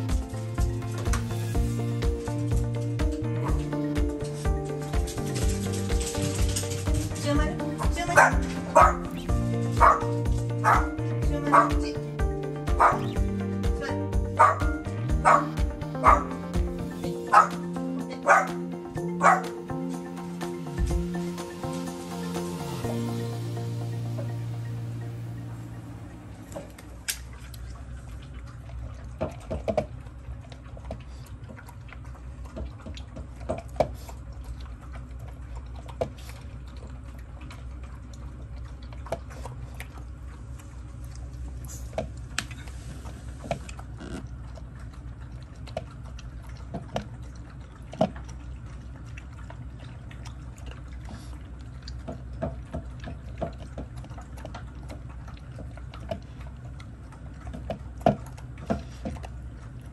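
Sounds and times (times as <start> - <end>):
dogs crunching kibble in bowls: 0.0 - 23.0, 26.4 - 59.9
low steady hum: 0.0 - 59.9.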